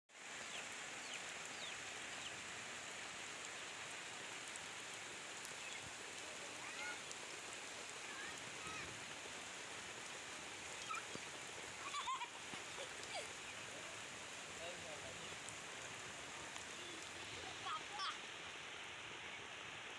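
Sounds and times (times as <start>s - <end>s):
rain hissing: 0.1s - 19.9s.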